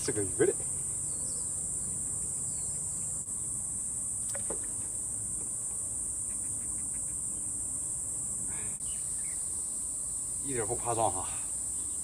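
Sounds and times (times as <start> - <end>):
insect chirp: 0.0 - 12.0
insects droning: 0.0 - 12.0.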